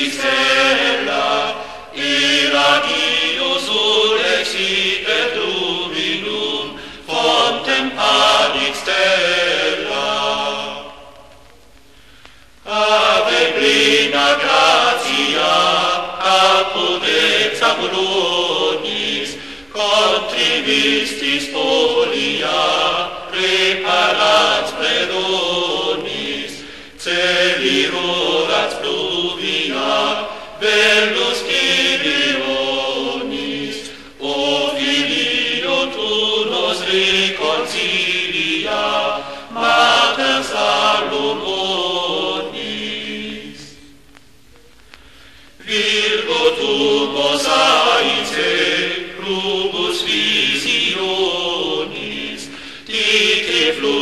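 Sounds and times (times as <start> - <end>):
choir singing sacred music: 0.0 - 11.4, 12.6 - 44.0, 45.6 - 54.0.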